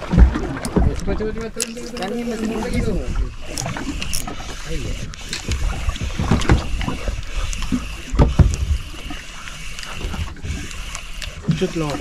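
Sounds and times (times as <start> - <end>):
water against boat hull: 0.0 - 12.0
wind: 0.0 - 12.0.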